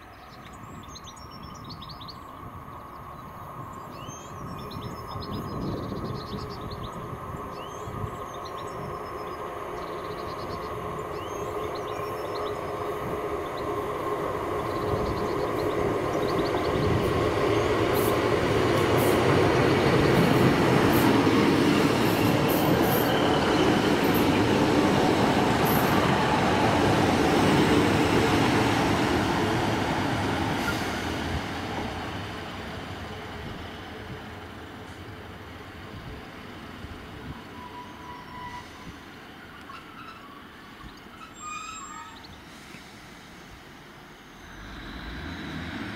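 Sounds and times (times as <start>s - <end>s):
diesel train running on track: 0.0s - 45.9s.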